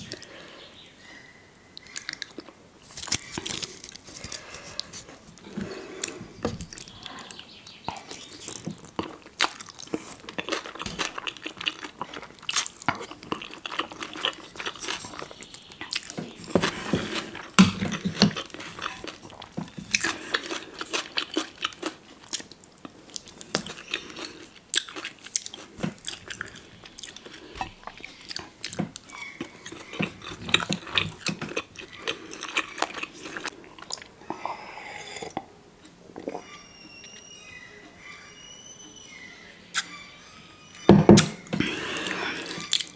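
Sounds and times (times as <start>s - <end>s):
crunchy food chewing: 1.8s - 37.2s, 41.2s - 42.9s.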